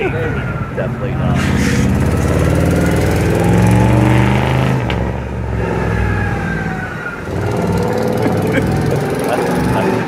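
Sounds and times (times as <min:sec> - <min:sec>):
truck engine running hard: 0:00.0 - 0:10.0.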